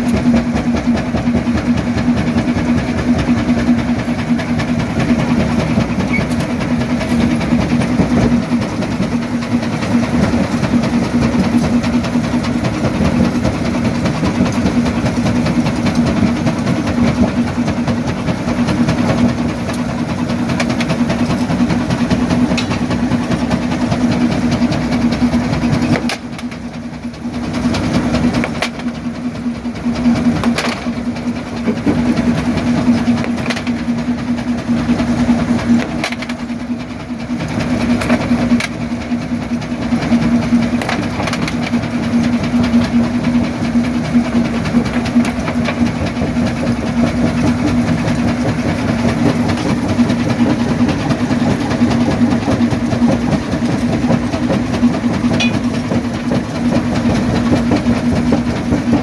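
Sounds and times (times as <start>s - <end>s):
jaw crusher humming: 0.0s - 26.7s, 27.5s - 59.0s.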